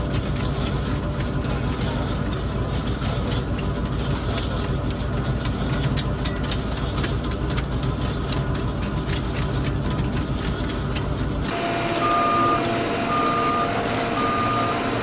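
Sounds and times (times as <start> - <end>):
heavy engine humming: 0.0 - 15.0.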